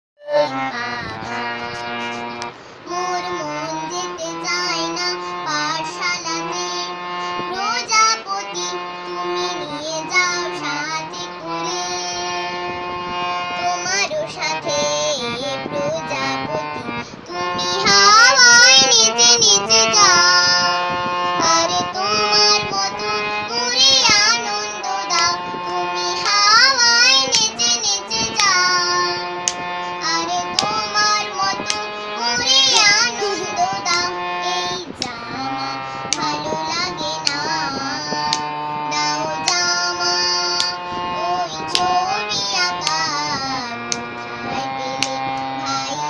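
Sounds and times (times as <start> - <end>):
girl singing: 0.2 - 46.0
harmonium: 0.2 - 46.0.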